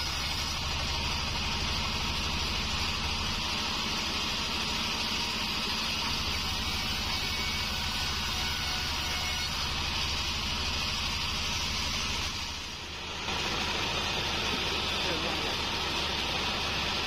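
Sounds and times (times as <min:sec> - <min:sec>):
band saw cutting wood: 0:00.0 - 0:17.0
sawmill machine hum: 0:00.0 - 0:17.0.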